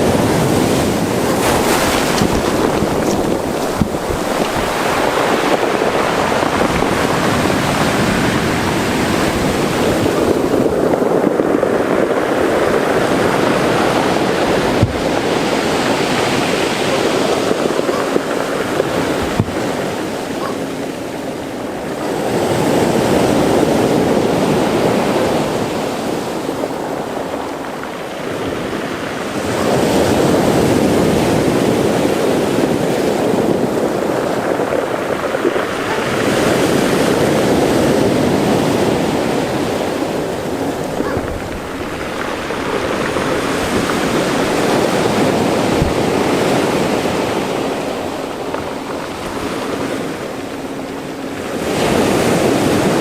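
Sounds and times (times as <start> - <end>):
sea waves washing into rocks: 0.0 - 53.0
wind buffeting microphone: 0.0 - 53.0.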